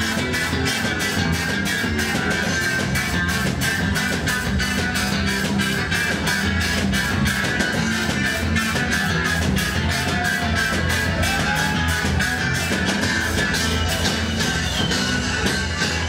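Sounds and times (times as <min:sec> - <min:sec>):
bass guitar: 0:00.0 - 0:16.0
drum kit beat: 0:00.0 - 0:16.0
electric guitar: 0:00.0 - 0:16.0.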